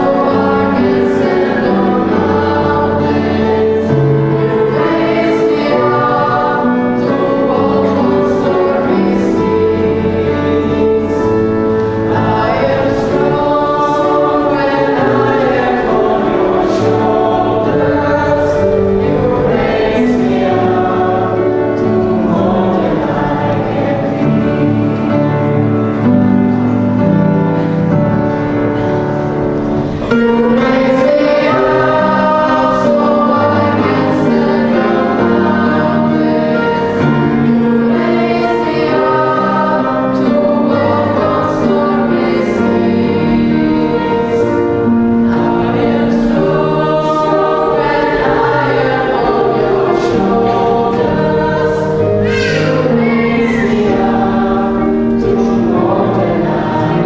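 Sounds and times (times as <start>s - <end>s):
group singing with instrumental backing: 0.0s - 26.7s, 27.5s - 57.0s.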